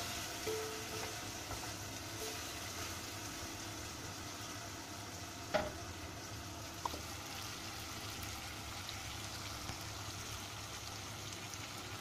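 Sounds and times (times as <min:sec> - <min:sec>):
sauce simmering and sizzling: 0:00.0 - 0:12.0.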